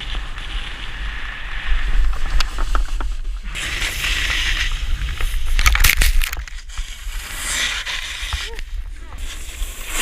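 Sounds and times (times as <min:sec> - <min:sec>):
snowboard sliding over snow: 0:00.0 - 0:10.0
wind rumbling on microphone: 0:00.0 - 0:10.0.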